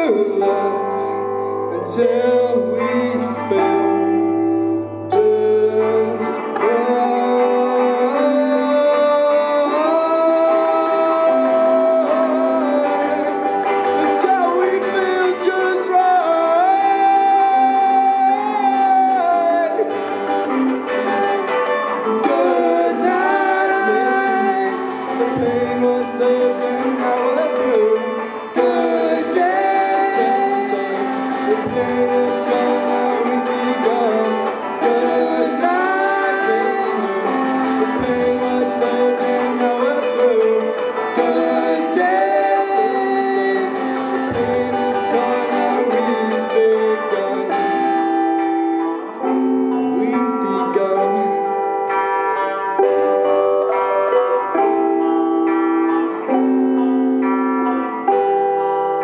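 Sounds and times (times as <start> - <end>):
electric guitars playing: 0.0 - 59.0
man singing: 0.0 - 59.0.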